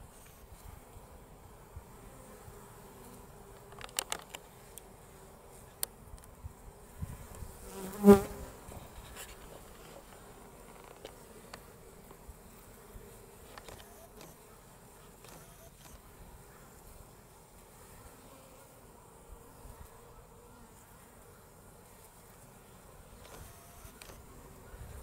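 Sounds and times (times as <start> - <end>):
bee buzzing close to microphone: 0.0 - 25.0
honeybees buzzing: 0.0 - 25.0.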